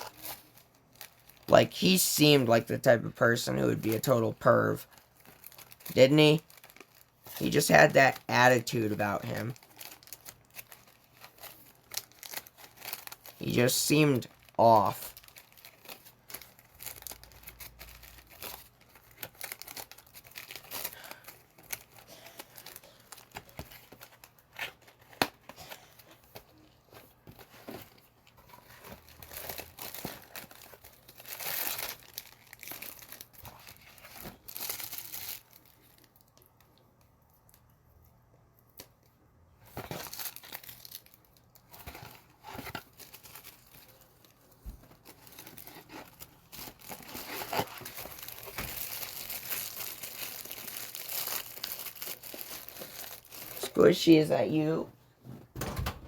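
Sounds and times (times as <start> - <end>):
foil wrappers crinkling and tearing: 0.0 - 36.6, 39.7 - 54.3.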